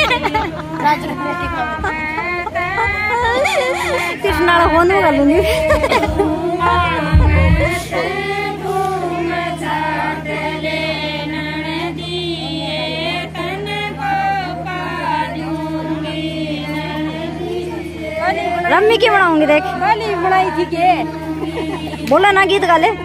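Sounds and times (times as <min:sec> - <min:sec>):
group of women singing: 0:00.0 - 0:23.0
steady low hum: 0:00.0 - 0:23.0.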